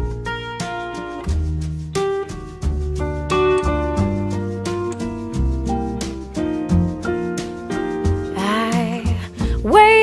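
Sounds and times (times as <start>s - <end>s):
soft jazz-pop instrumental music: 0.0s - 10.0s.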